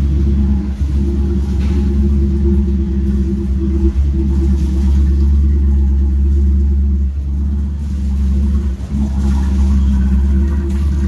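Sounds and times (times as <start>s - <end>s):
boat engine exhaust rumble: 0.0s - 11.0s.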